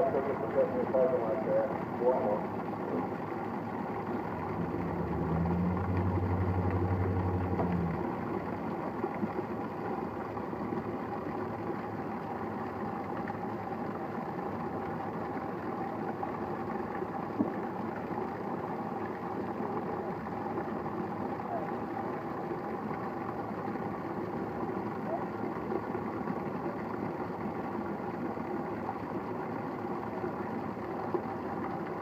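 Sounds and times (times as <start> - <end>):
steady rain: 0.0 - 27.0
vehicle engine running: 0.0 - 32.0.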